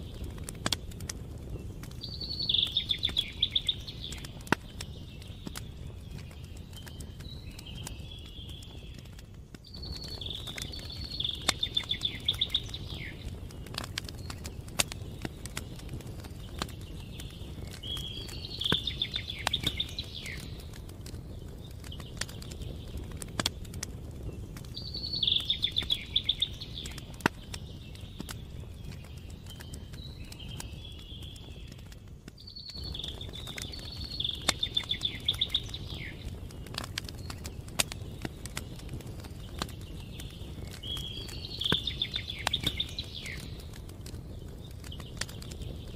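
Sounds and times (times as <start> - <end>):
campfire crackling and popping: 0.0 - 45.9
songbird singing: 0.0 - 45.9
steady low rumble: 0.0 - 45.9.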